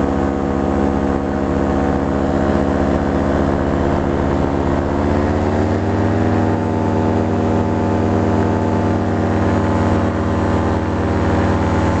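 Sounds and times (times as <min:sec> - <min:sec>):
paramotor engine drone: 0:00.0 - 0:12.0.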